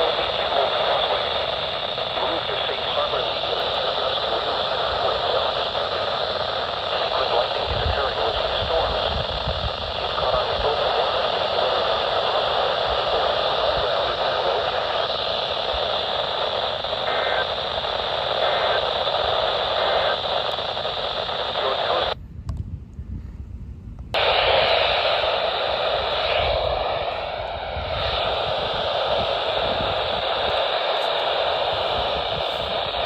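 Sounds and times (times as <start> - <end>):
radio static hiss: 0.0 - 22.2, 24.2 - 33.0.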